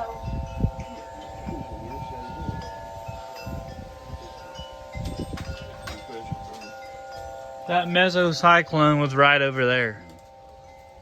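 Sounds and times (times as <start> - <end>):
wind buffeting microphone: 0.0 - 11.0
wind chimes ringing: 0.0 - 11.0.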